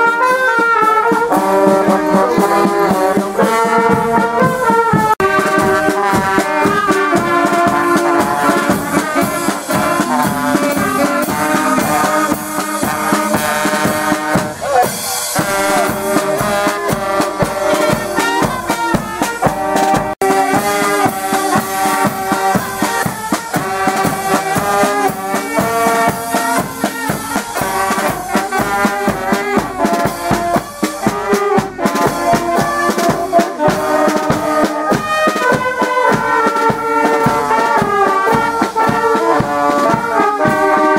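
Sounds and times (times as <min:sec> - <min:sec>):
brass band playing: 0:00.0 - 0:40.9.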